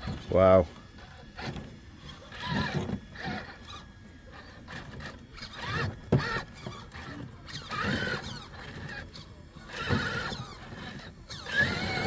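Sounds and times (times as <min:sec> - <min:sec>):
toy car motor whining: 0:00.0 - 0:12.0.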